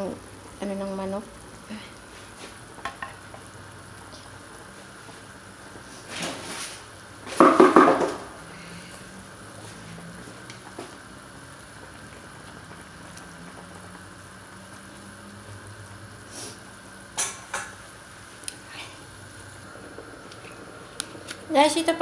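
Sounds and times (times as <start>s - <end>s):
soup boiling in a pot: 0.0s - 22.0s.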